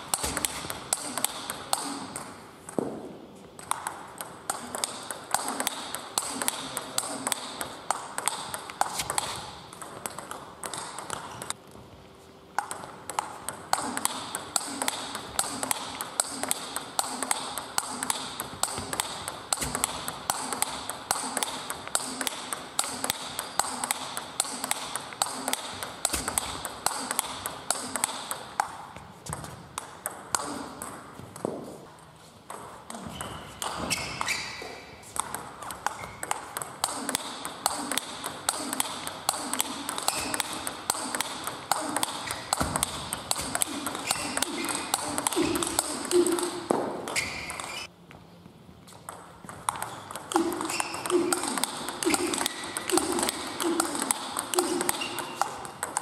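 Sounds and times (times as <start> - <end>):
table tennis balls clicking: 0.0 - 11.6, 12.5 - 47.9, 48.8 - 56.0.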